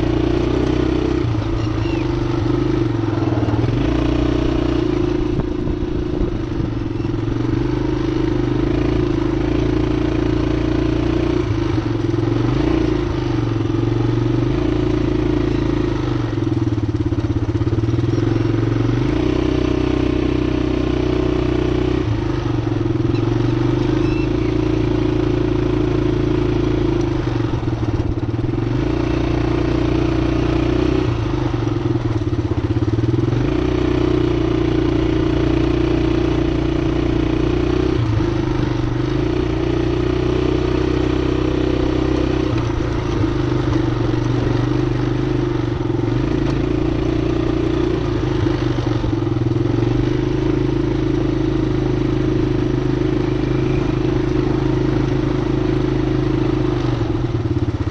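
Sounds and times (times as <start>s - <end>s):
quad bike engine running: 0.0s - 57.9s.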